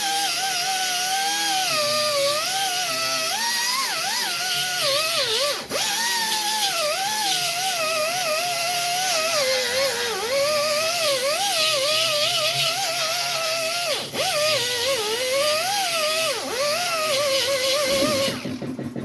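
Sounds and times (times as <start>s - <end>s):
grinder whining: 0.0s - 19.0s.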